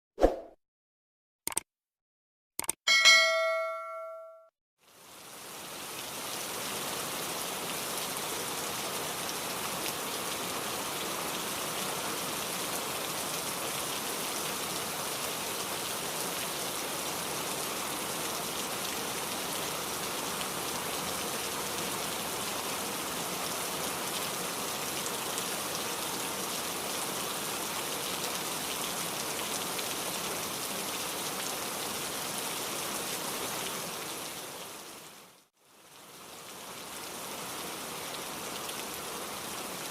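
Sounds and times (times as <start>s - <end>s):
steady rain: 4.8s - 39.9s.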